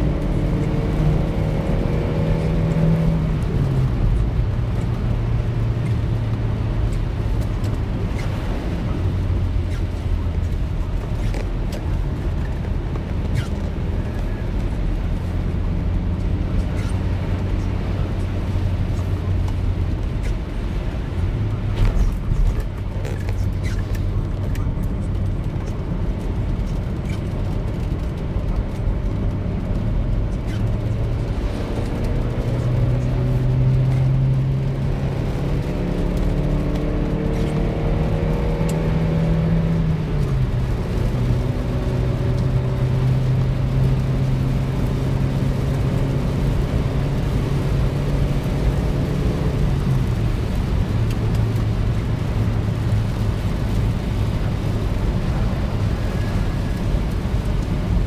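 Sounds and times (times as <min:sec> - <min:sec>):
car engine: 0:00.0 - 0:58.0
tyres on wet road: 0:00.0 - 0:58.0.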